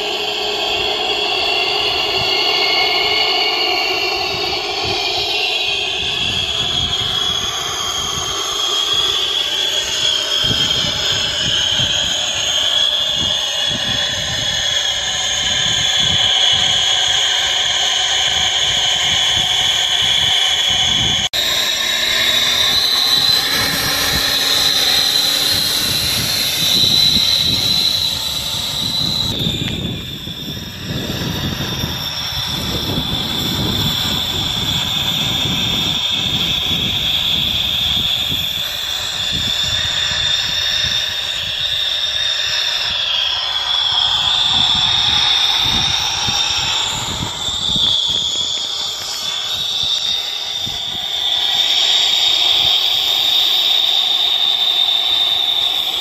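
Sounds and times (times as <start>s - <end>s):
model jet engines whining: 0.0s - 56.0s.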